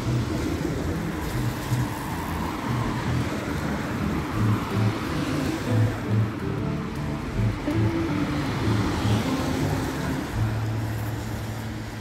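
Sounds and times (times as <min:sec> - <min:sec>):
background music with bass line: 0:00.0 - 0:12.0
cars driving past: 0:00.0 - 0:12.0.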